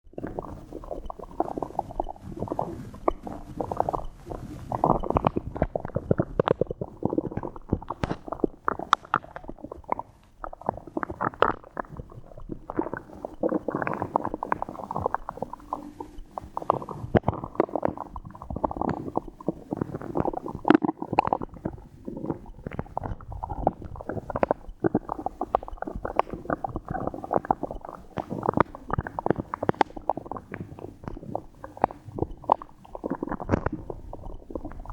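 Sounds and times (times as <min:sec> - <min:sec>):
stomach gurgling and rumbling: 0:00.0 - 0:34.9.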